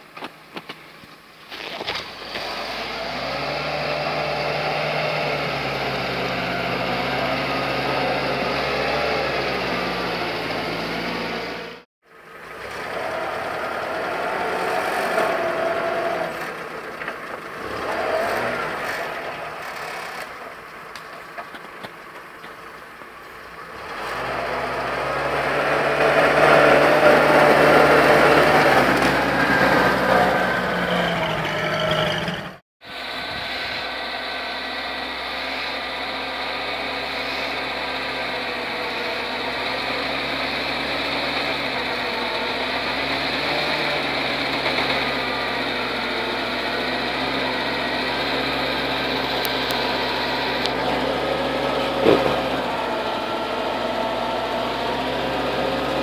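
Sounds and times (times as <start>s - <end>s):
vehicle engine driving through snow: 1.4s - 56.0s.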